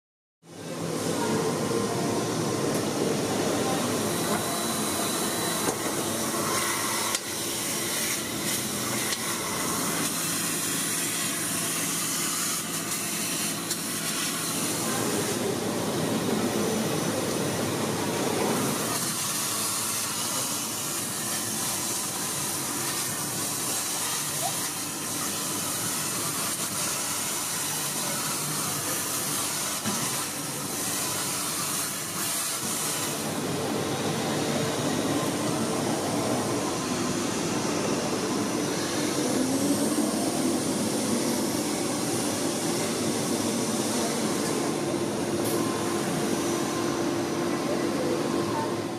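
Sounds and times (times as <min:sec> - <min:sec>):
vacuum cleaner sucking liquid: 0:03.6 - 0:46.8.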